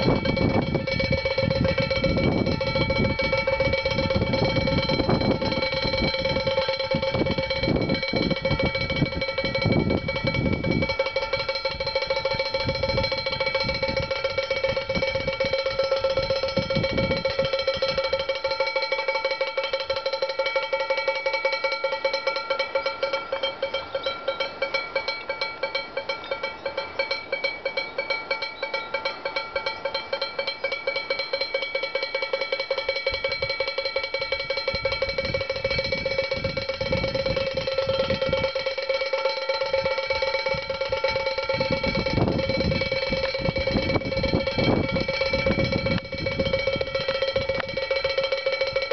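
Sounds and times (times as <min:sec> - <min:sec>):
wooden clappers clanging on pot: 0:00.0 - 0:48.9.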